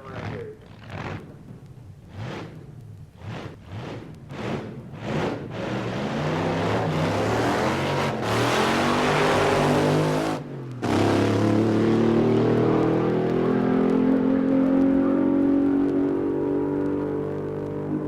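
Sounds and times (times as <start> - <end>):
racing car engine accelerating: 0.0 - 1.3, 2.0 - 18.0.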